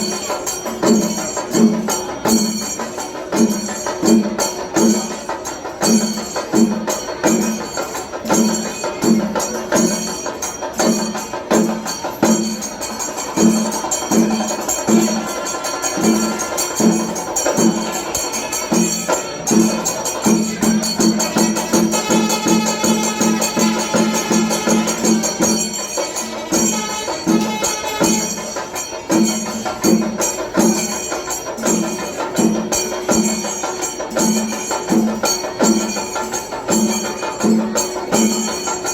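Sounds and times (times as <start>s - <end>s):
drums and clashing cymbals: 0.0s - 38.9s.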